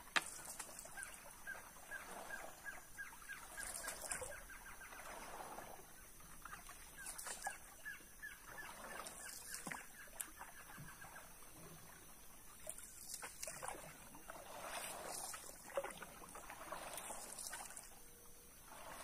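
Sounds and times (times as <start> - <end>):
paddle swishing through water: 0.0 - 19.0.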